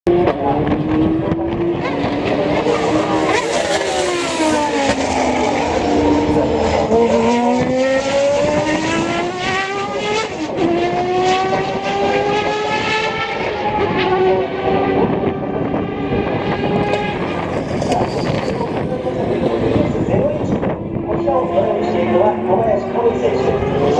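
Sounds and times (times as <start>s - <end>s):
race car engine revving: 0.1s - 23.9s.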